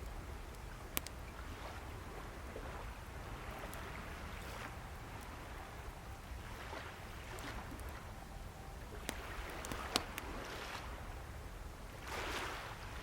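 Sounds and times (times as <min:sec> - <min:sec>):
wood fire crackling: 0:00.0 - 0:12.0
sea waves washing: 0:00.0 - 0:13.0.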